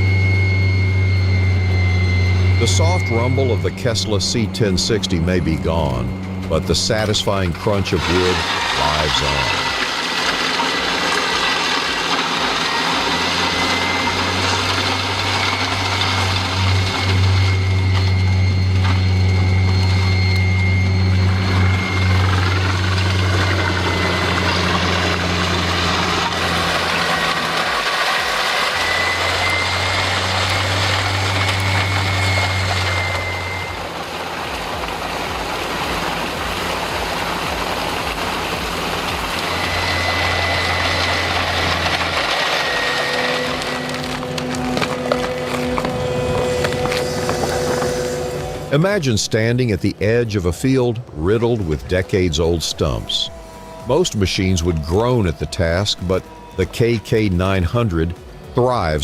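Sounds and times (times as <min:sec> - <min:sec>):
dense mechanical noise: 0:00.0 - 0:59.0
heavy machine engine running: 0:00.0 - 0:59.0
thin high whine: 0:00.0 - 0:59.0.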